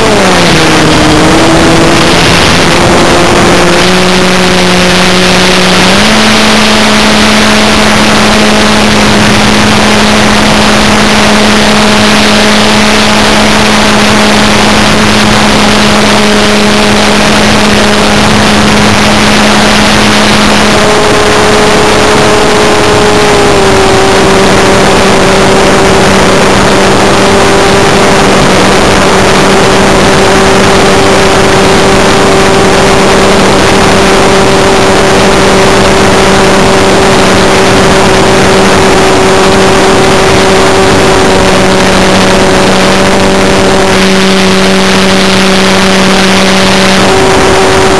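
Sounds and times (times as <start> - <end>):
electric motor and propeller hum: 0.0 - 47.9.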